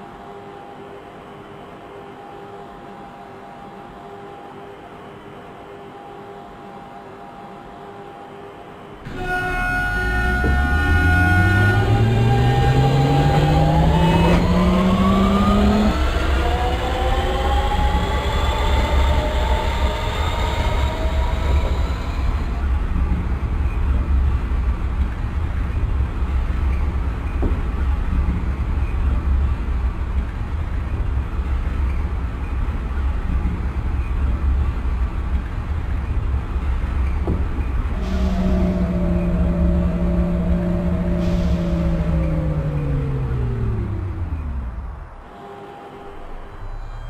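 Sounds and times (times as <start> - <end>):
train traction motors whining: 8.6 - 47.0
wheels rumbling on rail: 9.0 - 47.0.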